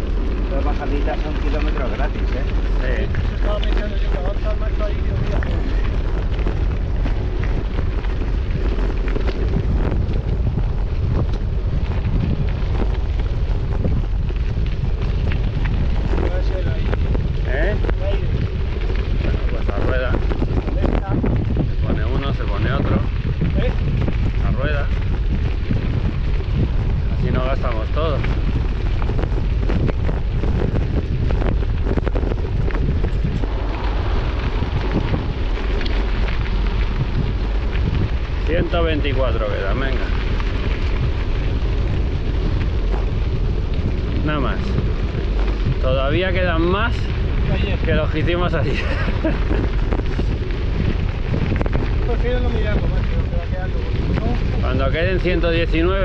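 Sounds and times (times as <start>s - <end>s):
light ticks and rattles: 0.0s - 56.0s
wind buffeting microphone: 0.0s - 56.0s.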